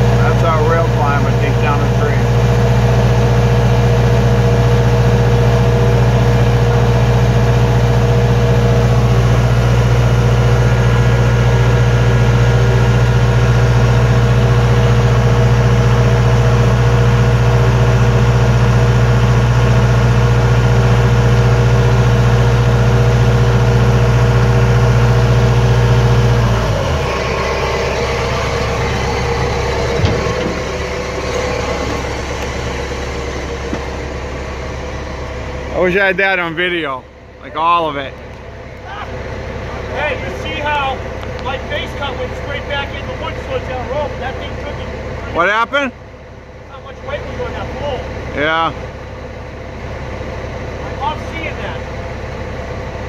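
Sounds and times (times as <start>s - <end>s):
heavy engine humming: 0.0s - 53.0s.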